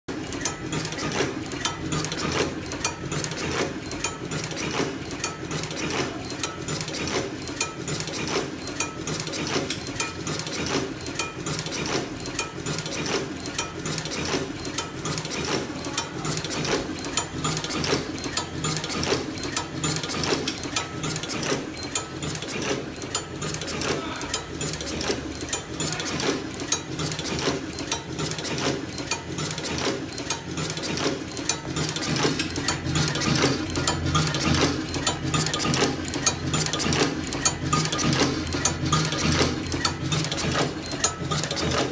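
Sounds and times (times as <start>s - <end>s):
crimping machine clicking and clacking: 0.1s - 41.9s.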